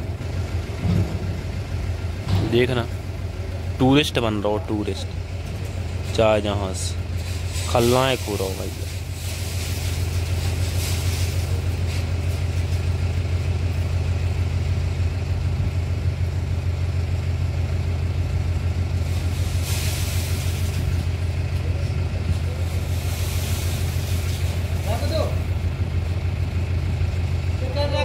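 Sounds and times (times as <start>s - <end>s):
engine droning: 0.0s - 28.0s.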